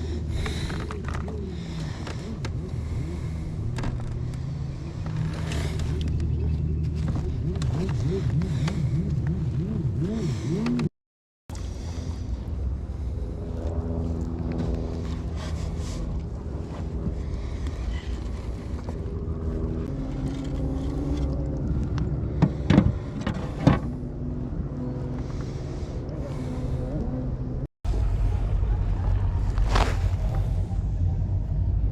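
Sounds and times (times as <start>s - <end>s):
boat motor running: 0.0s - 10.9s, 11.5s - 31.9s.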